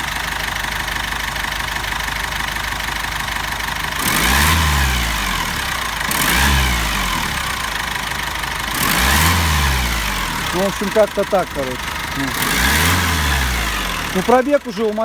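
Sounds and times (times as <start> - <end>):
diesel engine idling and revving: 0.0 - 15.0.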